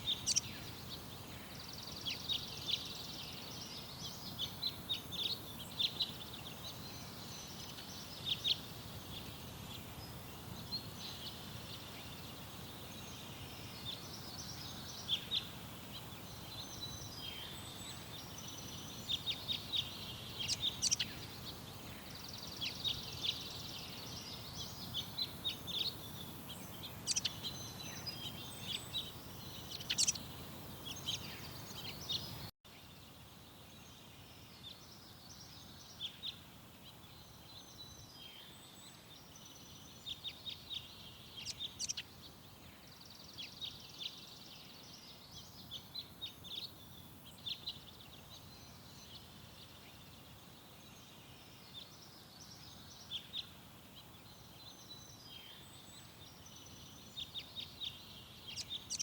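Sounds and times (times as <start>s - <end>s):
small birds chirping: 0.0s - 59.0s
steady outdoor hiss: 0.0s - 59.0s.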